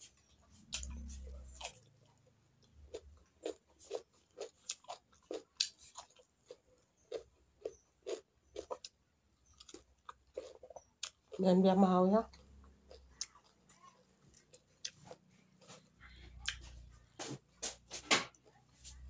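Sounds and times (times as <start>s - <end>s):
chewing crunchy cucumber: 0.0s - 17.0s.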